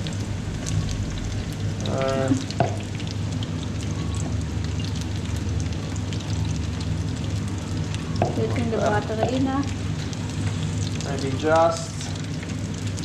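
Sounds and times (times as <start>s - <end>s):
fish deep-frying in hot oil: 0.0s - 13.0s.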